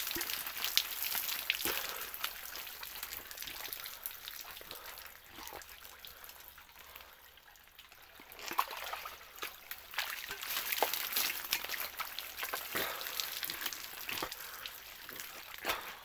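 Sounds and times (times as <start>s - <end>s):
water dripping and splashing: 0.0s - 16.0s.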